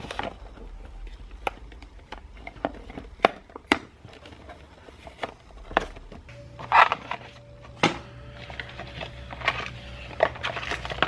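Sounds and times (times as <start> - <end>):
cardboard and plastic packaging rustling: 0.0 - 11.0.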